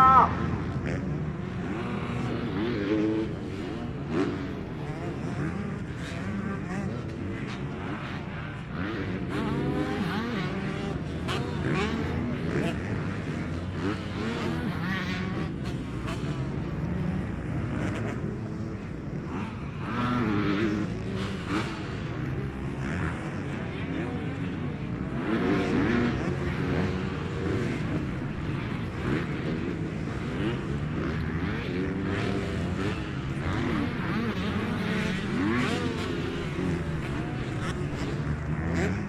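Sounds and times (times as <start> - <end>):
motocross bikes revving: 0.0 - 39.0.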